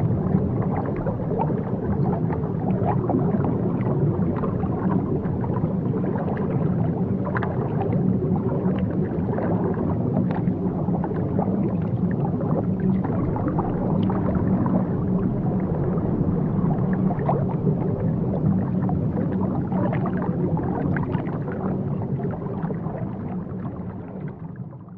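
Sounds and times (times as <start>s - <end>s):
aquarium water rumble: 0.0s - 24.9s
faint clicks and gurgles: 0.0s - 24.9s.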